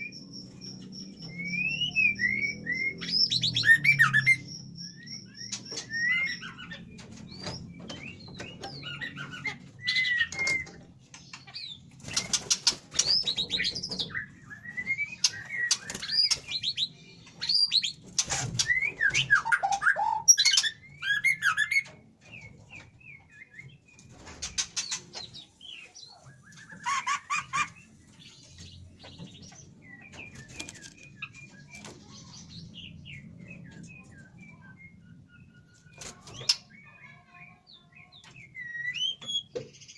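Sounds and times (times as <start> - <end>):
birds whistling and chirping: 0.0 - 39.9.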